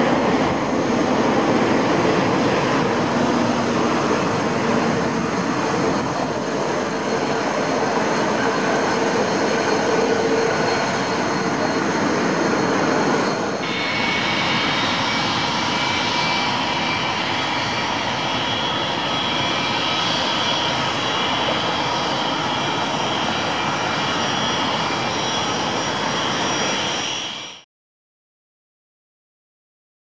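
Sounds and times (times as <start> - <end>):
jet engines rushing and whining: 0.0 - 27.6.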